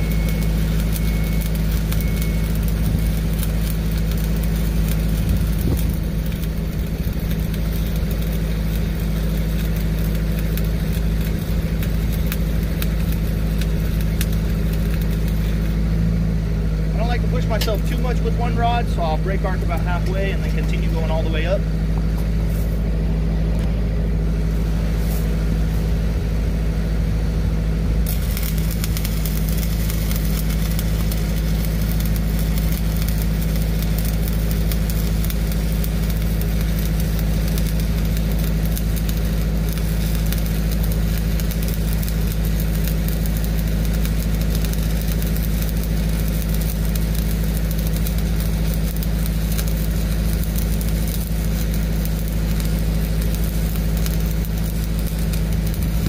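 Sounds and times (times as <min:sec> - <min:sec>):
welding arc crackling: 0:00.0 - 0:23.8, 0:24.4 - 0:56.0
diesel engine droning: 0:00.0 - 0:56.0.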